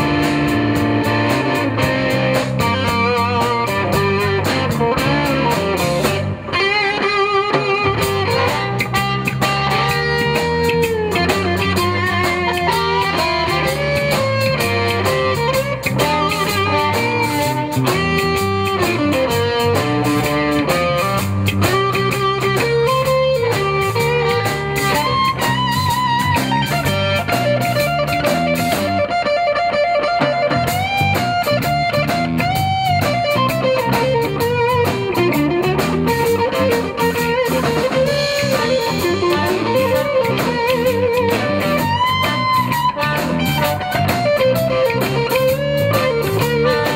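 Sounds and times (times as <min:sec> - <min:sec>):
blues band playing: 0:00.0 - 0:46.9
electric guitar lead: 0:00.0 - 0:46.9.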